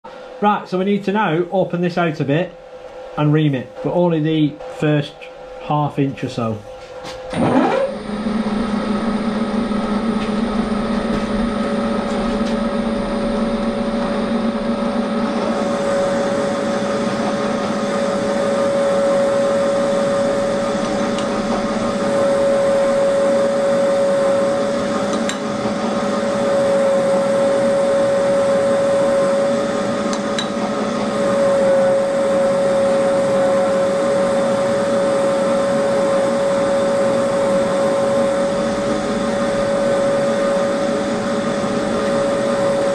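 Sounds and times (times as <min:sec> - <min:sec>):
milling machine hum and whine: 0:00.1 - 0:42.9.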